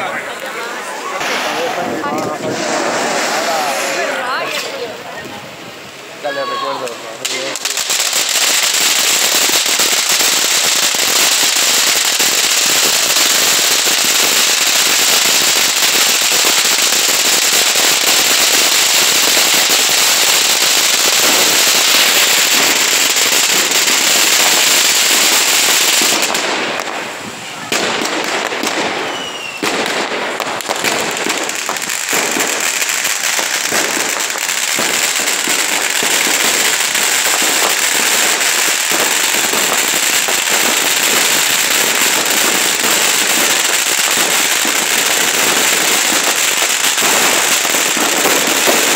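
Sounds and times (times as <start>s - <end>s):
firecrackers crackling and banging: 0.0s - 48.9s.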